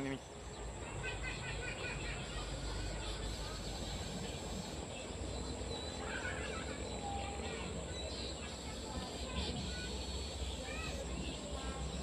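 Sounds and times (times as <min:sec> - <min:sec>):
faint chirps: 0:00.0 - 0:12.0.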